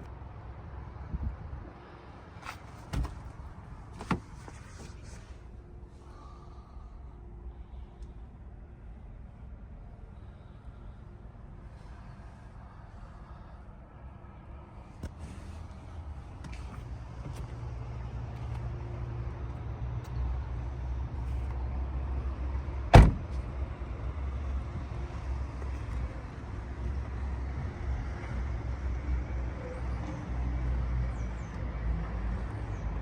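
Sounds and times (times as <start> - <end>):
low car rumble: 0.0 - 33.0.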